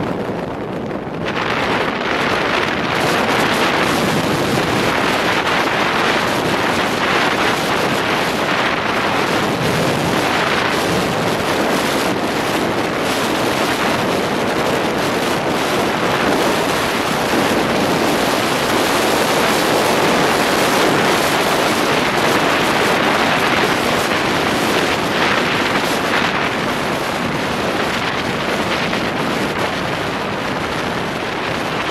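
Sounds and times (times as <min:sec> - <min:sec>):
car road and wind noise: 0:00.0 - 0:31.9.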